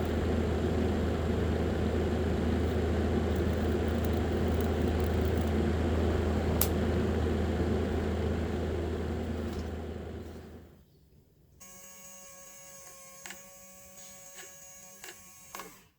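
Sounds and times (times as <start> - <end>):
electric fan motor humming: 0.0 - 10.8, 11.6 - 15.6.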